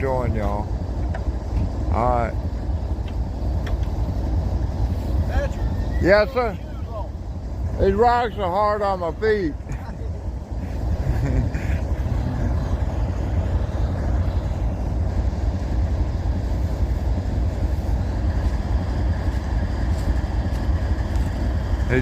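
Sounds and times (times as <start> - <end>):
diesel locomotive idling: 0.0 - 22.0.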